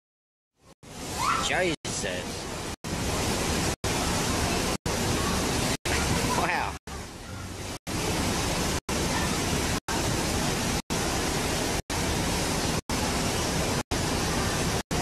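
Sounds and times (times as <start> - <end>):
water rushing down a water slide: 0.9 - 15.0.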